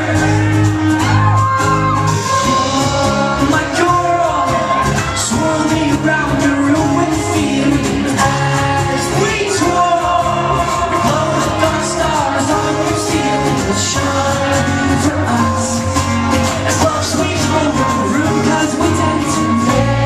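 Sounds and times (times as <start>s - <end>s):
live synth-pop band: 0.0s - 20.0s
person singing: 0.0s - 20.0s.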